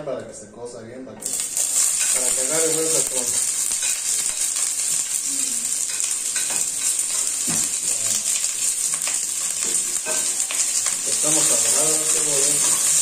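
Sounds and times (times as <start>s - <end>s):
onions sizzling in oil: 1.2s - 13.0s
spatula scraping pan: 1.2s - 13.0s.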